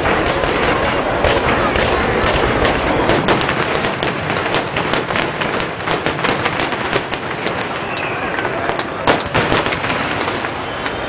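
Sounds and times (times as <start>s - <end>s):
fireworks popping and crackling: 0.0s - 11.0s
low rumble of fireworks bursts: 0.0s - 11.0s.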